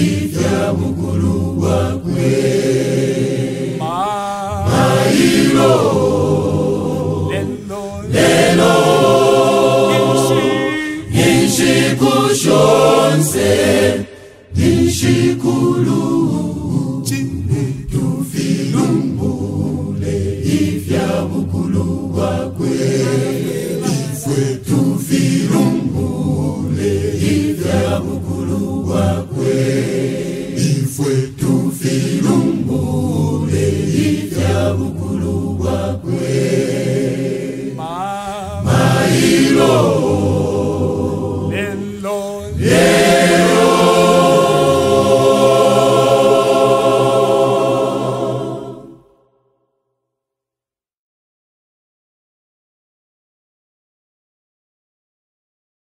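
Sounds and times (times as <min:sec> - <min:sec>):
choir singing a cappella: 0:00.0 - 0:49.4.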